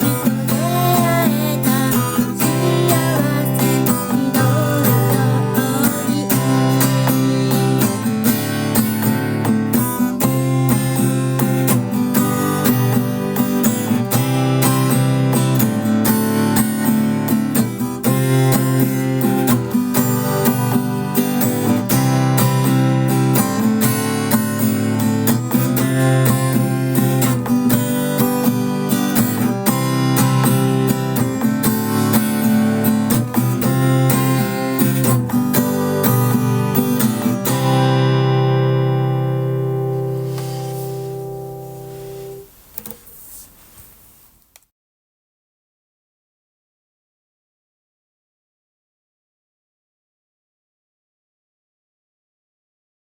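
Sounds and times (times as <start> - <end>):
acoustic guitar strumming: 0.0 - 42.6.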